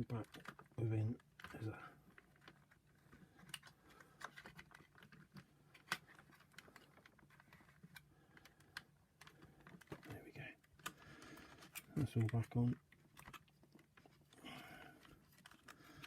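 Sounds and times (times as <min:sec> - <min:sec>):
plastic parts clicking into place: 0:00.1 - 0:16.0.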